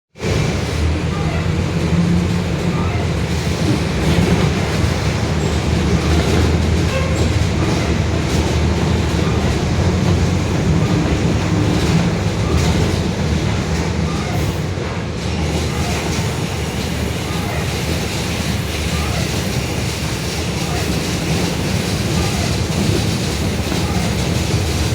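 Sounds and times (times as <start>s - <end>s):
bus differential growling: 0.2s - 24.9s
bus running noise: 0.2s - 24.9s.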